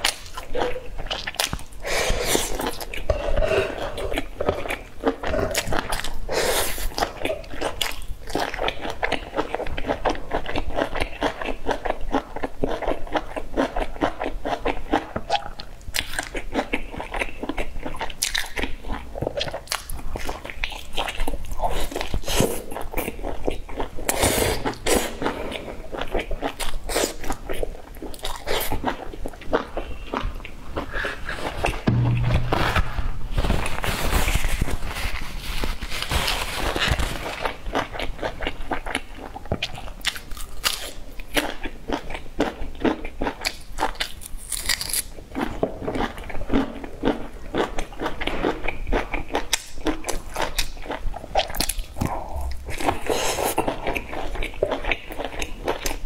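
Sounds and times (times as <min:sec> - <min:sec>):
crunching and chewing flatbread: 0:00.0 - 0:56.0.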